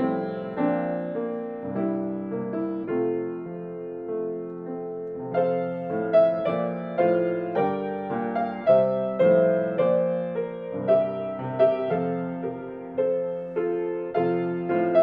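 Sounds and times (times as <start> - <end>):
piano playing hymn chords: 0.0 - 15.0.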